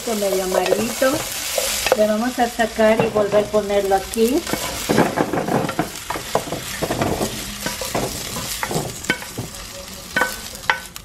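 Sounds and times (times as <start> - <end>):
potatoes sizzling in oil: 0.0 - 11.0
metal utensil scraping a pan: 0.1 - 11.0.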